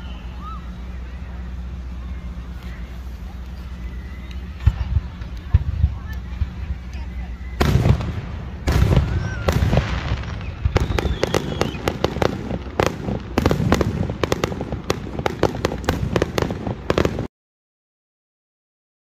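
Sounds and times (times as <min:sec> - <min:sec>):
fireworks bangs and crackling: 0:01.3 - 0:17.3.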